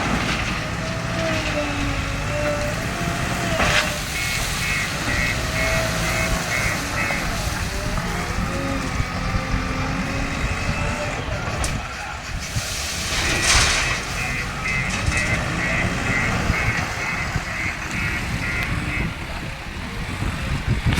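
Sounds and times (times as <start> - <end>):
diesel engine under load: 0.0 - 20.9
hydraulic whine: 0.0 - 20.9.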